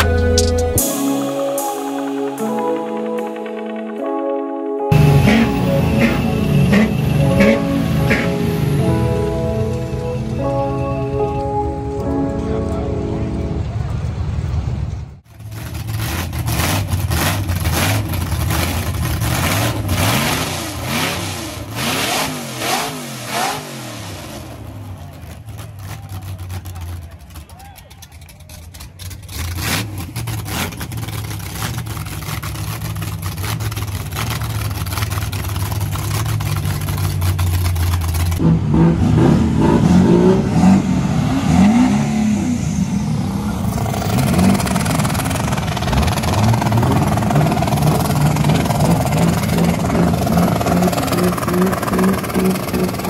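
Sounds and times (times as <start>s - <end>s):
diesel truck engine revving: 4.9s - 11.2s, 13.5s - 53.0s.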